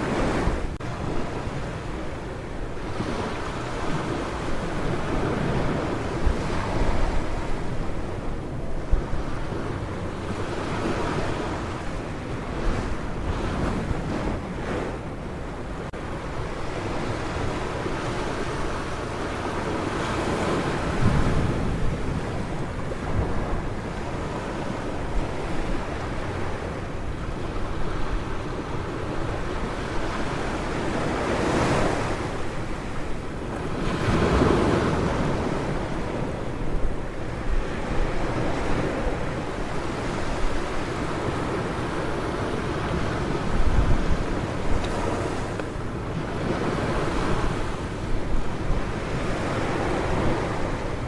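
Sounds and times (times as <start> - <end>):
ocean surf on a beach: 0.0 - 51.0
wind buffeting microphone: 0.0 - 51.0.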